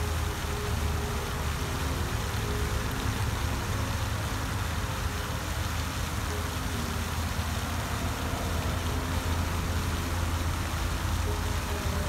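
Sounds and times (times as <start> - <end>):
fountain water spraying: 0.0 - 12.0.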